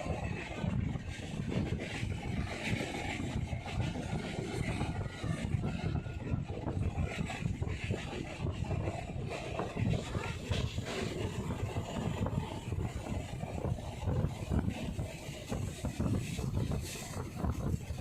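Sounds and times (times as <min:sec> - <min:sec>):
train rumbling on tracks: 0:00.0 - 0:18.0.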